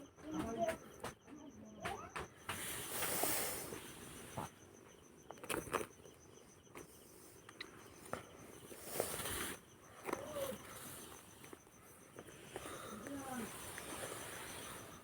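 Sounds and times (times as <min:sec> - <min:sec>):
pulsing insect chirp: 0:00.0 - 0:15.0.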